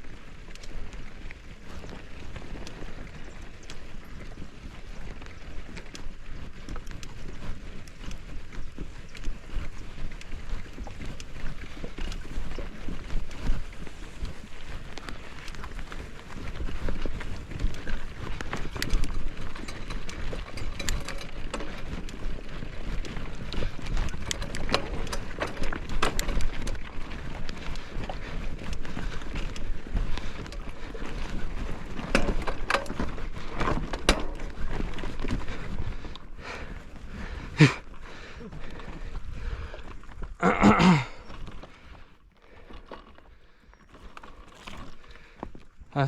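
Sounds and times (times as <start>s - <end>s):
mountain bike clattering: 0.1s - 45.9s.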